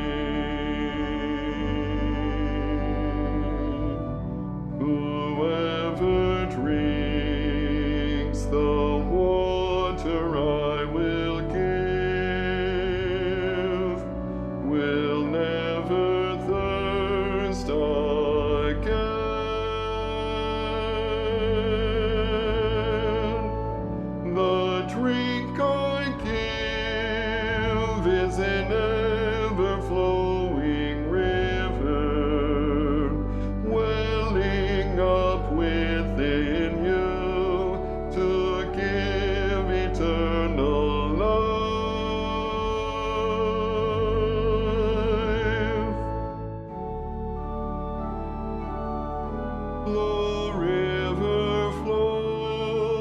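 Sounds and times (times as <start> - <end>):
person singing with vibrato: 0.0 - 46.8, 49.2 - 53.0
choir singing a hymn: 0.0 - 53.0
low sustained accompaniment: 0.0 - 53.0.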